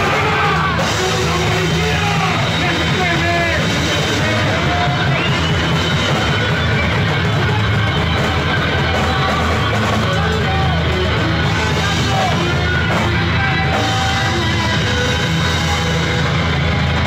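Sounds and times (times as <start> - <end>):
distorted electric guitar: 0.0 - 17.0
live rock band playing: 0.0 - 17.0.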